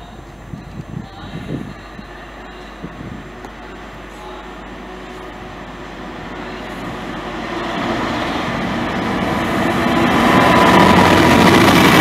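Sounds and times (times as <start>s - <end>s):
diesel locomotive engine: 0.0s - 12.0s
train wheels rumbling on rails: 0.0s - 12.0s.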